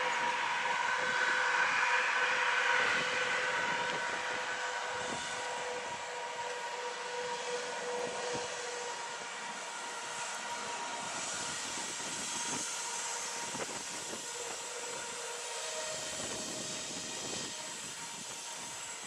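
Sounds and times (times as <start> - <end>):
passenger train rushing: 0.0 - 19.0.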